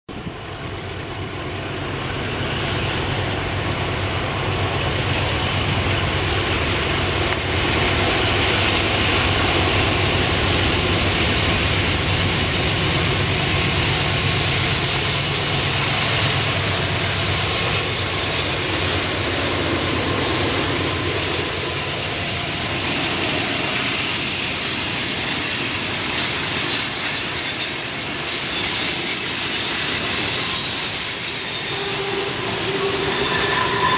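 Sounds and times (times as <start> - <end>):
diesel locomotive engine drone: 0.1 - 33.9.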